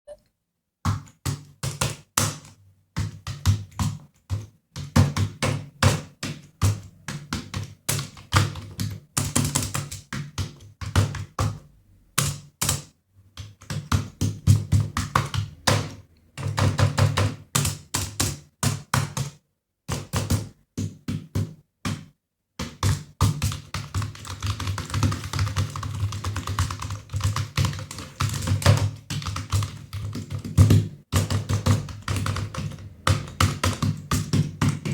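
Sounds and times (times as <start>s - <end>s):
computer keyboard typing: 0.9s - 21.5s, 22.6s - 34.9s.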